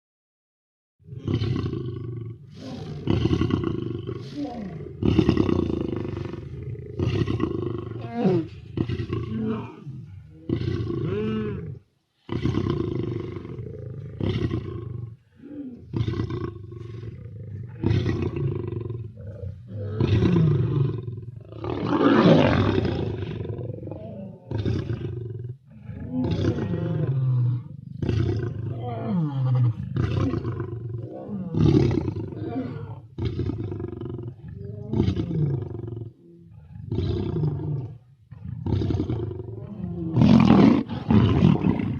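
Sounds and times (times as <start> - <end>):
lion breathing and grunting: 1.1 - 41.9.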